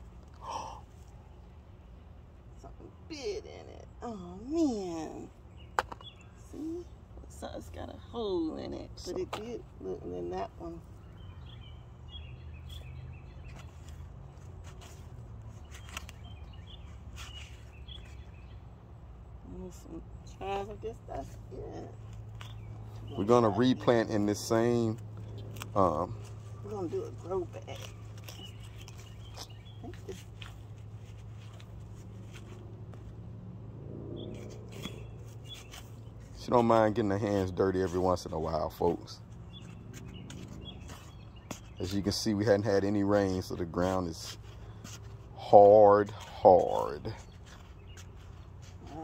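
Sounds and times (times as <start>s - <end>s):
small birds chirping: 0.0s - 33.3s, 34.1s - 49.0s
low steady hum: 0.0s - 49.0s.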